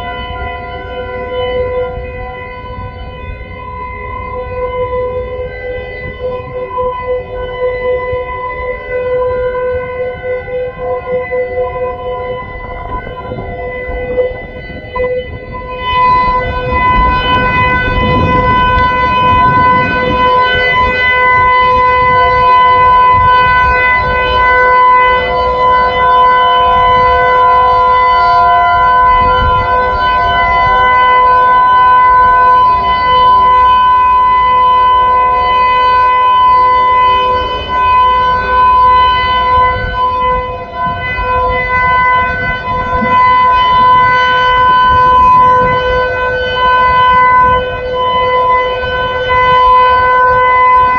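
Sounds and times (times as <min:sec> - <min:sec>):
warning siren steady tone: 0:00.0 - 0:50.9.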